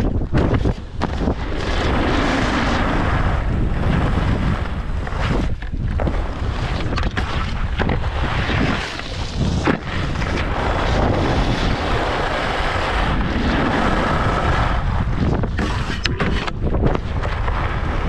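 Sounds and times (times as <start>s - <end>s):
wind on microphone: 0.0s - 18.0s
skis scraping on snow: 0.1s - 18.0s.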